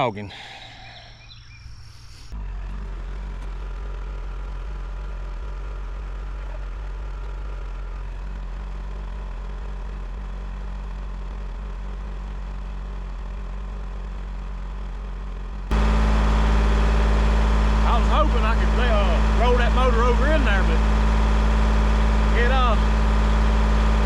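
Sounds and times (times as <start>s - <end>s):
tractor engine droning: 2.3s - 24.0s.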